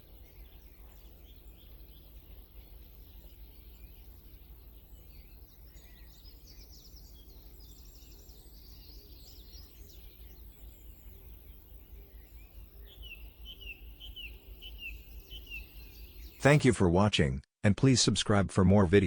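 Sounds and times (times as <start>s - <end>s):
songbird twittering: 0.0s - 16.5s.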